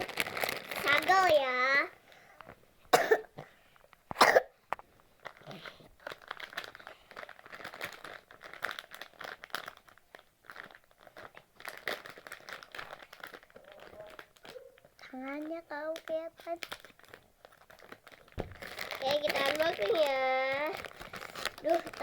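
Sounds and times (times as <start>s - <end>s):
plastic packaging crinkling: 0.0s - 2.6s, 4.8s - 22.0s.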